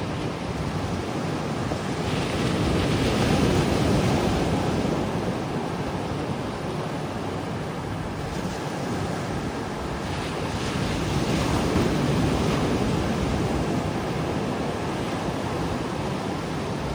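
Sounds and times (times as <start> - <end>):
ocean waves breaking on beach: 0.0 - 16.9
wind buffeting microphone: 0.0 - 16.9.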